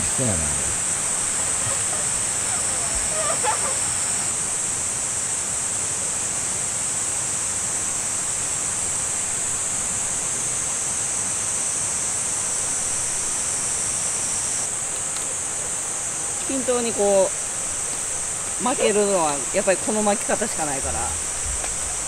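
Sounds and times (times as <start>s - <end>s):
high-pitched insect drone: 0.0s - 22.0s
river flowing: 0.0s - 22.0s.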